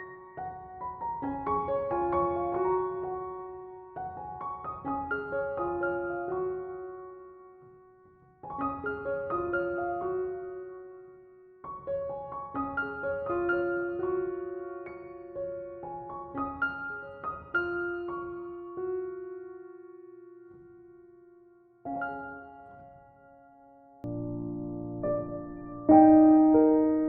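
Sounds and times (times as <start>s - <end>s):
soft solo piano music: 0.0s - 27.0s.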